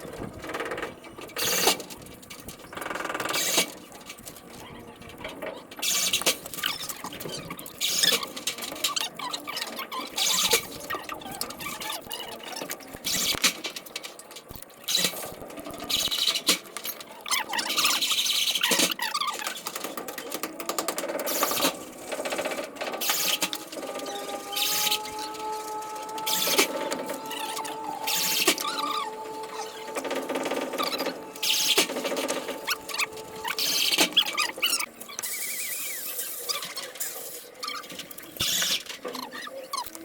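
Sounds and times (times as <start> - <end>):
sped-up squeaky plumbing noises: 0.0 - 40.0.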